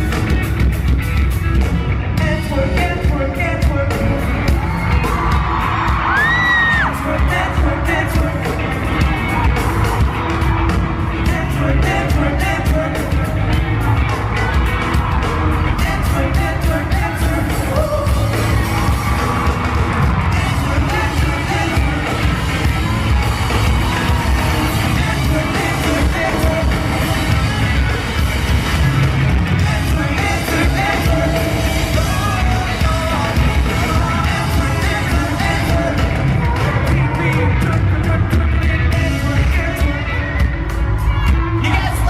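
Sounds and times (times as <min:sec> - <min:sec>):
crowd yelling and singing along: 0:00.0 - 0:42.0
pop-punk band playing loud: 0:00.0 - 0:42.0
person singing: 0:02.2 - 0:28.8, 0:29.4 - 0:42.0.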